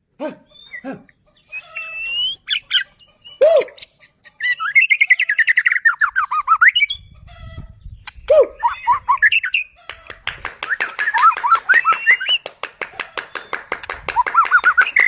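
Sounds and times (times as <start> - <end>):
bird whistling song: 0.4 - 9.8, 10.6 - 12.5, 13.3 - 15.0.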